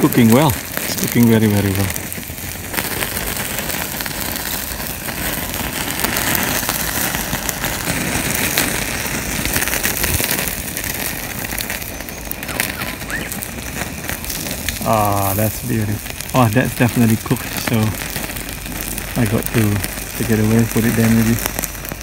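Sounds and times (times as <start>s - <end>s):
fish sizzling and crackling: 0.0s - 22.0s.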